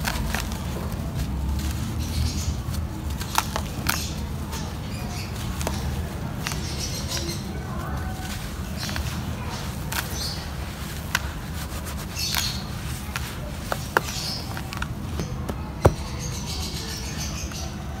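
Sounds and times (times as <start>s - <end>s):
hands rubbing gritty powder: 0.0s - 17.7s.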